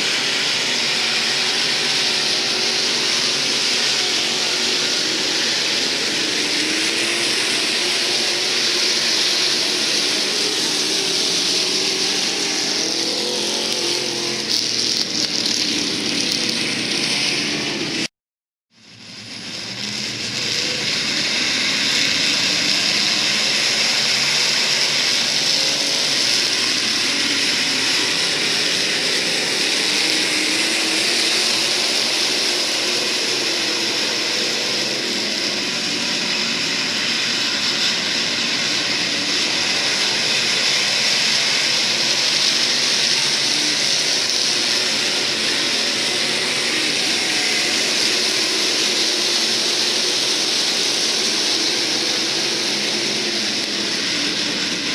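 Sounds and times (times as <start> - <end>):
race car engines at speed: 0.0 - 18.1, 18.8 - 54.9.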